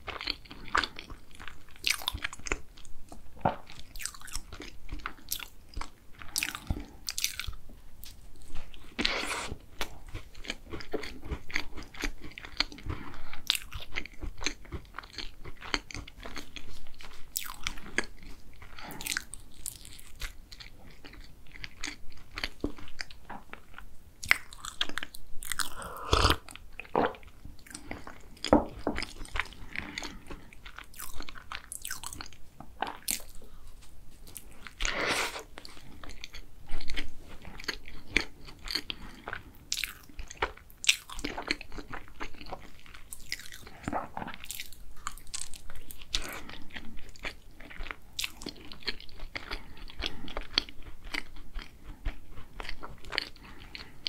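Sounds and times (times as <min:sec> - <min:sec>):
person chewing crunchy pastry: 0:00.0 - 0:54.0.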